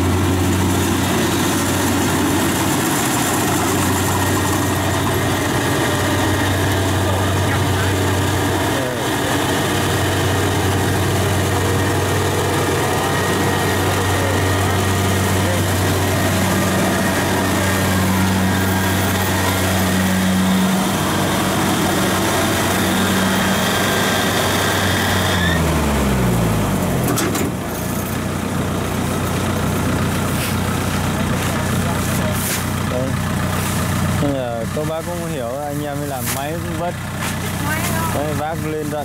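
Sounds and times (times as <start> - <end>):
combine harvester engine running: 0.0 - 39.0
high machinery whine: 0.0 - 39.0.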